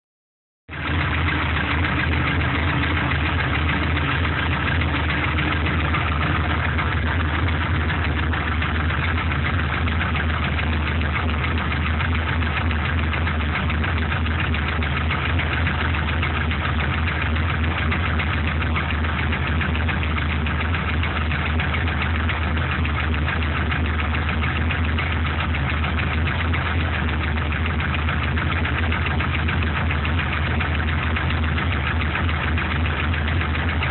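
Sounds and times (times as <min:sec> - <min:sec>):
engine idling: 0:00.7 - 0:33.9
engine ticking and knocking: 0:00.7 - 0:33.9.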